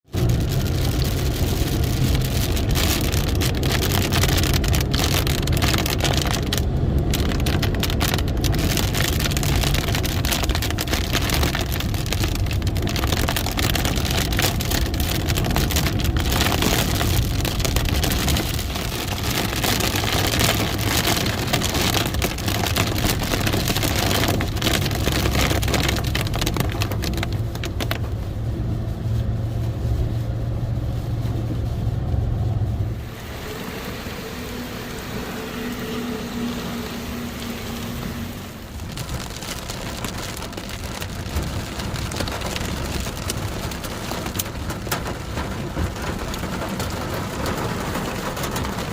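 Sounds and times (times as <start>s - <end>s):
heavy rain and hail pelting: 0.1s - 48.9s.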